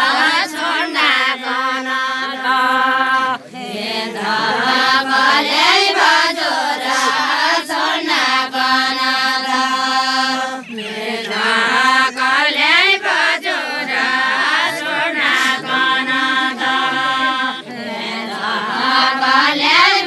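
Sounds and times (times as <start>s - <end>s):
women singing unaccompanied: 0.0s - 20.0s.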